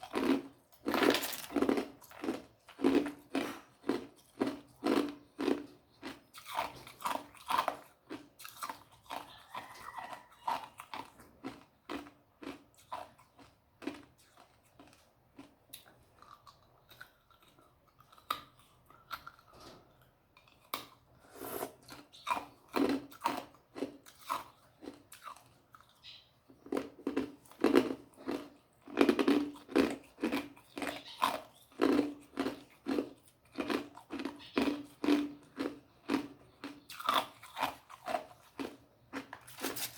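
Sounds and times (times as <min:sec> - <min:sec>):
ice crunching between teeth: 0:00.0 - 0:19.6, 0:26.6 - 0:39.9.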